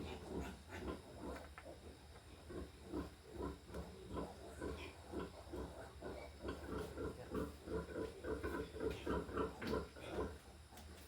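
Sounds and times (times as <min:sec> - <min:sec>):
pigs grunting: 0:00.0 - 0:10.8.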